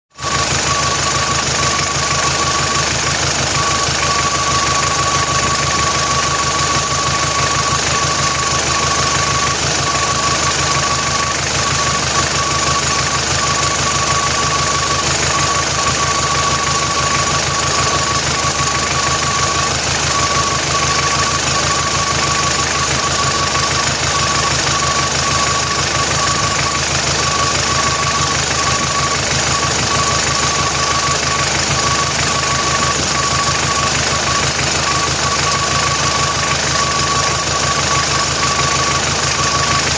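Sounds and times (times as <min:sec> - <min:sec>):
engine idling with knocking: 0:00.1 - 0:39.9.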